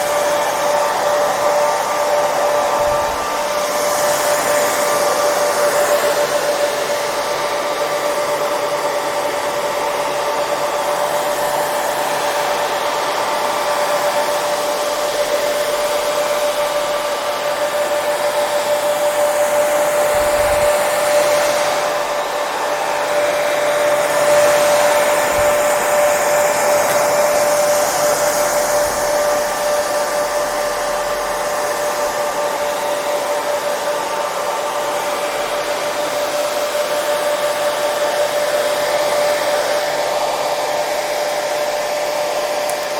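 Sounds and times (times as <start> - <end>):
hair dryer running: 0.0 - 42.9.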